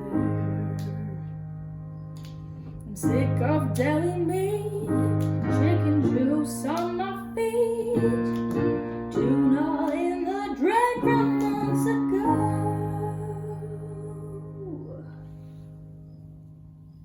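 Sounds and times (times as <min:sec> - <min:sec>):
woman singing: 0:00.0 - 0:01.4, 0:02.9 - 0:15.2.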